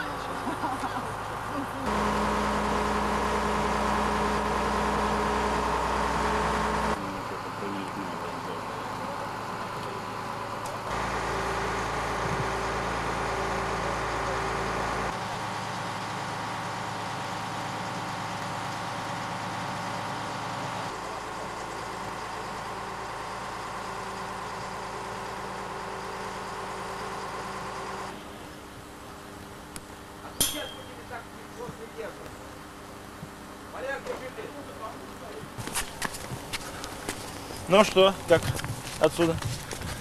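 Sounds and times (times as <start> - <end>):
crane engine running: 0.0 - 40.0.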